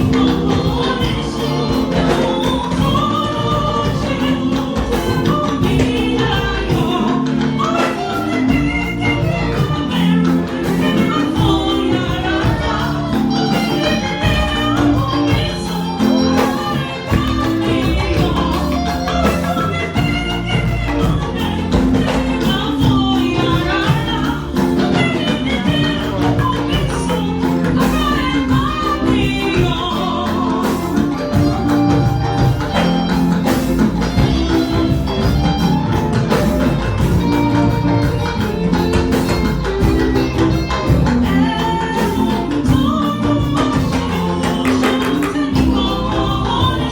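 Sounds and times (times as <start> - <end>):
instrumental accompaniment with beat: 0.0 - 46.9
voices singing: 0.0 - 46.9.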